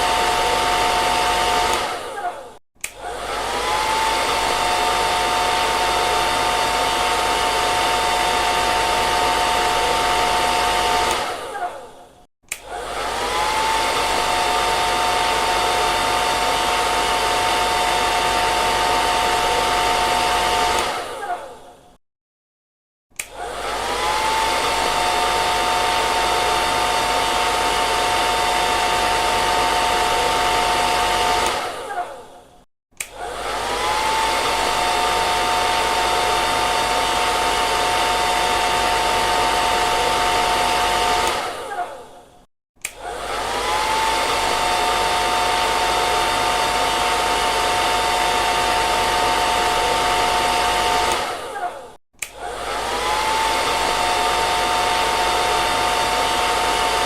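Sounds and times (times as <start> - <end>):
hair dryer motor whine: 0.0 - 21.8, 23.2 - 32.4, 33.0 - 57.0.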